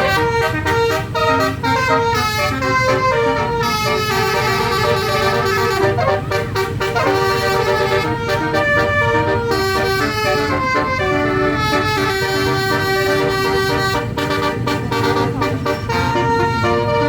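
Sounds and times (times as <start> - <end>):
low engine rumble: 0.0 - 17.0
musical bus horn playing a tune: 0.0 - 17.0.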